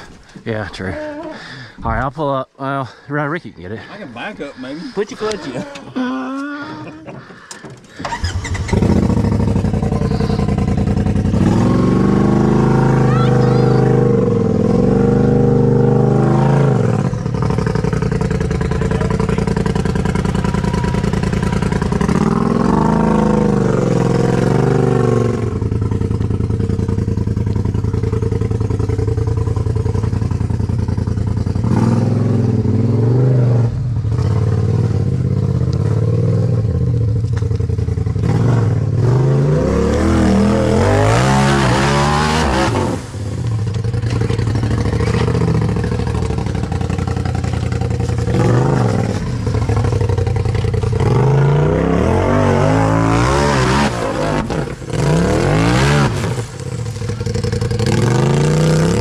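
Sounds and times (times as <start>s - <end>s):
off-road vehicle engine revving: 6.7s - 59.0s.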